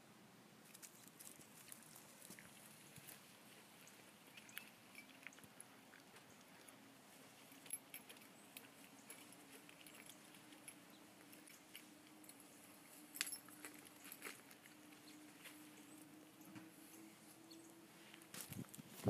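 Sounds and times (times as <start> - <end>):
faint steady hum: 0.0 - 19.0
soft ticks and rustles: 0.6 - 17.3.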